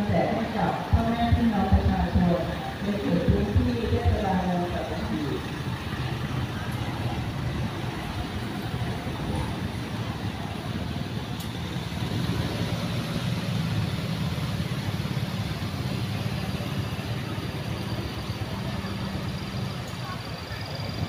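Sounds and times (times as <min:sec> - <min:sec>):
car and scooter engines: 0:00.0 - 0:21.0
street noise: 0:00.0 - 0:21.0.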